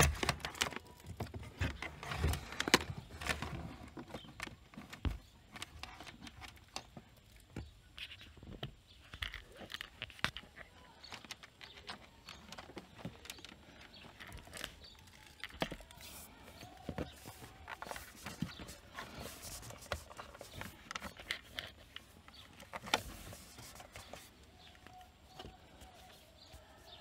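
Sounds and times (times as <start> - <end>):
hands handling cable and trim: 0.0 - 27.0.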